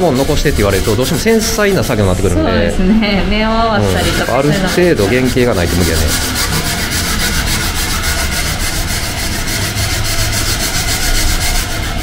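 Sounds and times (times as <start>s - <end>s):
hand sanding strokes: 0.0s - 2.6s, 3.8s - 12.0s.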